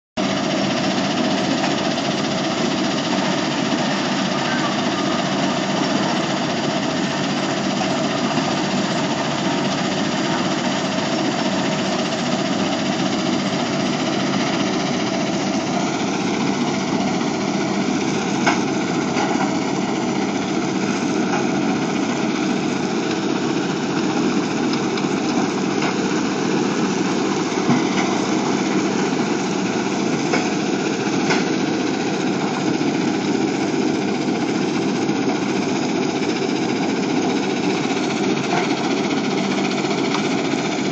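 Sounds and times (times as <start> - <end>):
diesel engine drone: 0.2 - 40.9
machinery rumble: 0.2 - 40.9.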